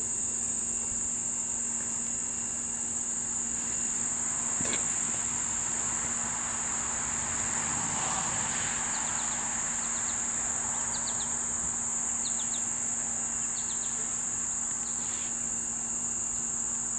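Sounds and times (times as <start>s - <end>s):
high-pitched insect chorus drone: 0.0s - 16.9s.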